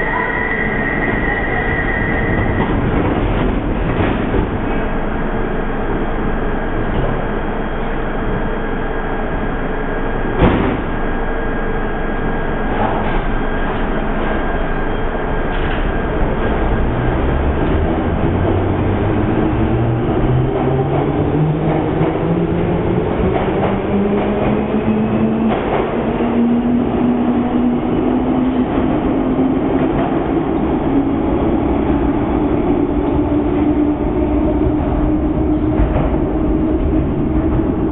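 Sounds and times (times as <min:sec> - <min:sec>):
train rumble: 0:00.0 - 0:37.9.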